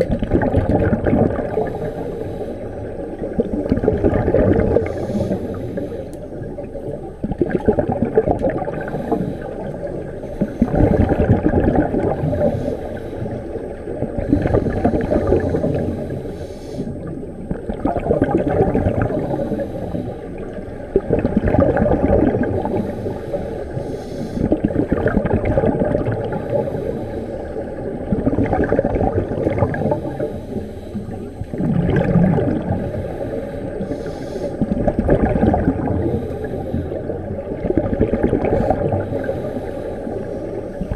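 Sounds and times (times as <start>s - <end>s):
underwater air bubbling: 0.0s - 40.9s.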